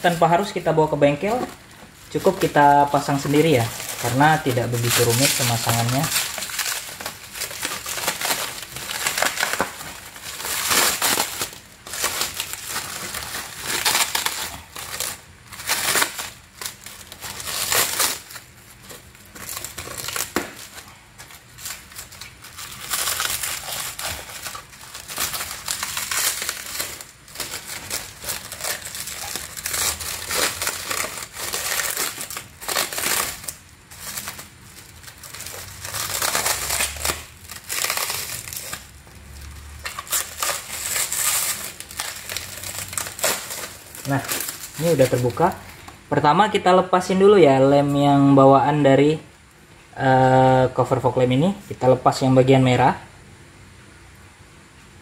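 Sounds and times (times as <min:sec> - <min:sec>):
plastic packaging crinkling: 0:00.0 - 0:49.2.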